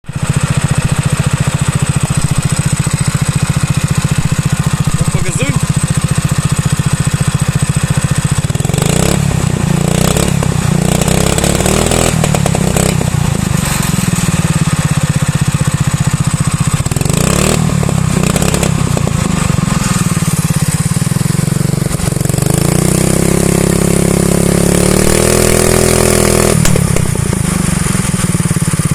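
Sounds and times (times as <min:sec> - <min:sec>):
small engine idling and revving: 0:00.0 - 0:28.9.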